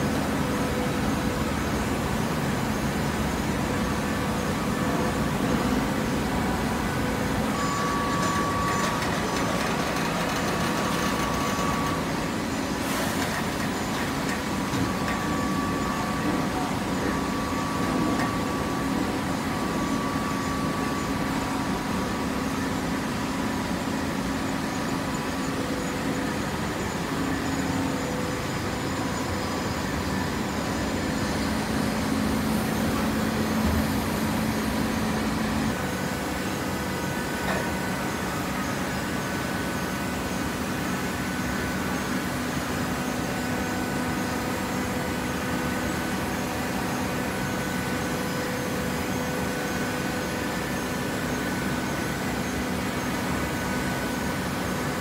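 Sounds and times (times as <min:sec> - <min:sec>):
hydraulic baler humming: 0:00.0 - 0:55.0.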